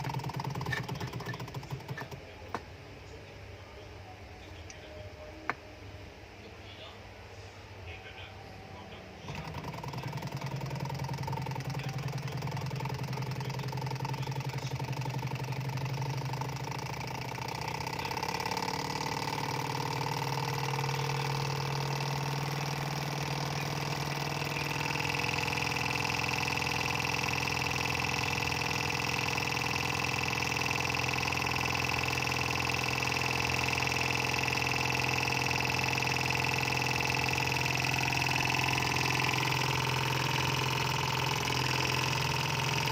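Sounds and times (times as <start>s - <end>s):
stirling engine running: 0.0s - 2.6s, 7.8s - 42.9s.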